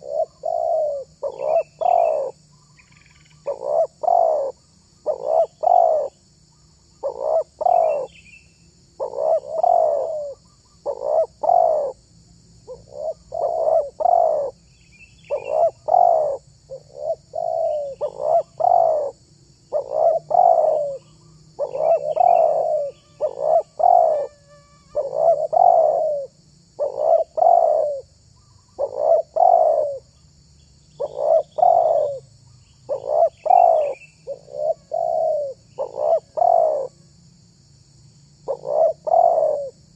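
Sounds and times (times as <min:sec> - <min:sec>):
dove cooing: 0:00.0 - 0:06.2, 0:07.0 - 0:08.2, 0:09.0 - 0:12.0, 0:12.7 - 0:14.6, 0:15.3 - 0:30.1, 0:31.0 - 0:32.2, 0:32.9 - 0:37.0, 0:38.4 - 0:39.8.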